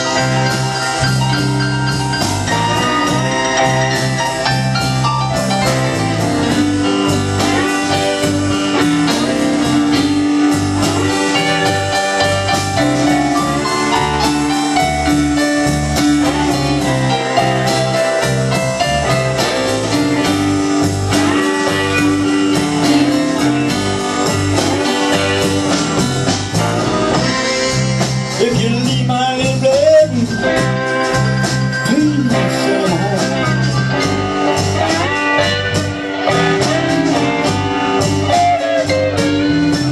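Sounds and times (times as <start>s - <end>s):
bass guitar: 0.0s - 39.9s
drums: 0.0s - 39.9s
electric guitar: 0.0s - 39.9s
keyboards: 0.0s - 39.9s.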